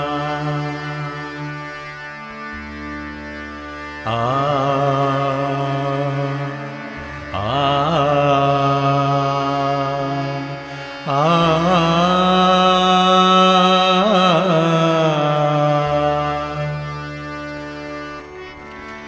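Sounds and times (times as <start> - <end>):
man singing melismatic notes: 0.0 - 2.2, 4.0 - 18.7
steady backing drone: 0.0 - 19.0.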